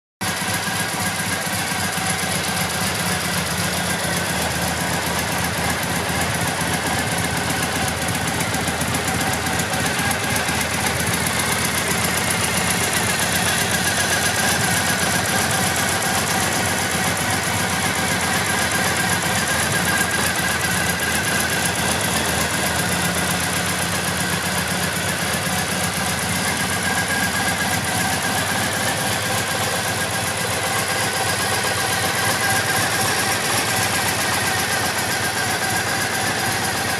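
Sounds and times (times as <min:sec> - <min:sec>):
motorcycle engine idling: 0:00.2 - 0:36.9.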